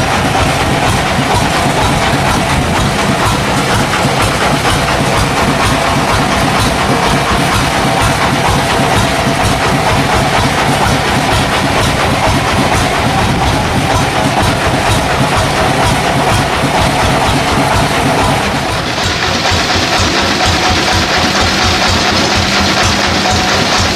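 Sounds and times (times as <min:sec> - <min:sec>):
saw cutting through log: 0:00.0 - 0:23.9.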